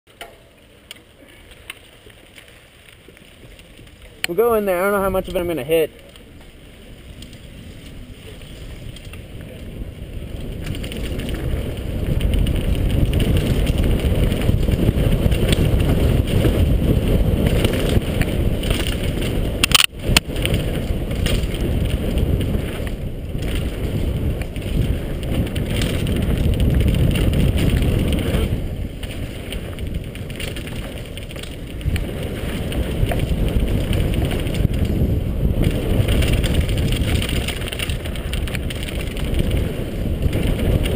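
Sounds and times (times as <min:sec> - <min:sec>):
bike tyres over dirt and rock: 0:00.1 - 0:40.9
wind rumbling on microphone: 0:01.0 - 0:40.9.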